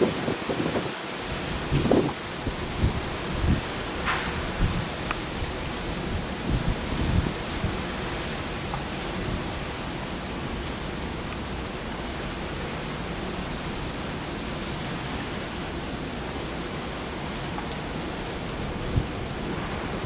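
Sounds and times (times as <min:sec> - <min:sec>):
heavy rain: 0:00.0 - 0:20.0
wind: 0:00.0 - 0:20.0.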